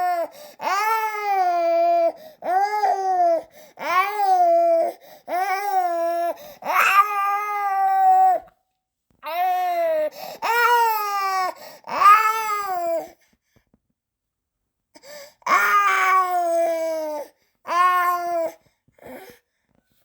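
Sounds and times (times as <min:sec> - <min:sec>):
baby crying: 0:00.0 - 0:08.5, 0:09.2 - 0:13.1, 0:15.4 - 0:19.2.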